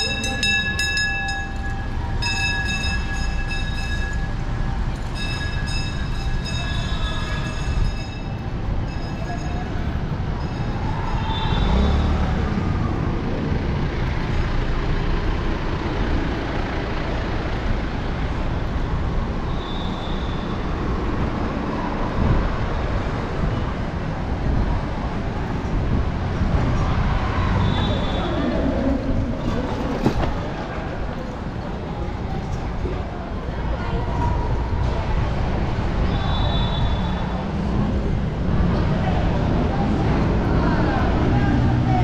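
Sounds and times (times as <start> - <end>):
pedestrians bustle: 0.0 - 42.0
traffic rumble: 0.0 - 42.0.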